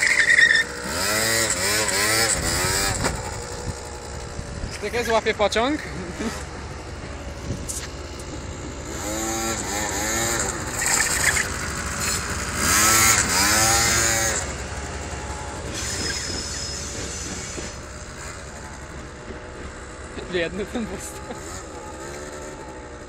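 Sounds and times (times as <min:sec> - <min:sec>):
scooter engine revving: 0:00.0 - 0:23.0.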